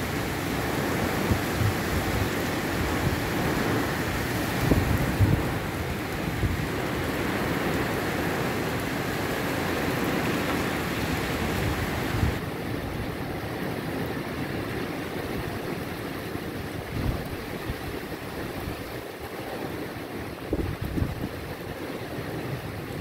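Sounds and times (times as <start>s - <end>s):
heavy rain on wet street: 0.0s - 23.0s
wind buffeting microphone: 0.0s - 23.0s.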